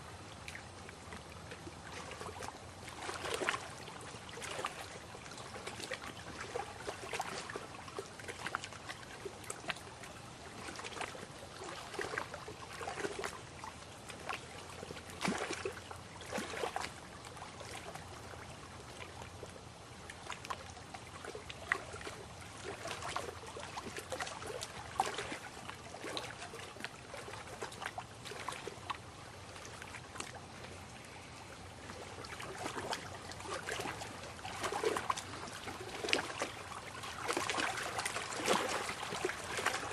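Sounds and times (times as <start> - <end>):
lake water lapping: 0.0 - 39.9
small water splashes: 0.0 - 39.9.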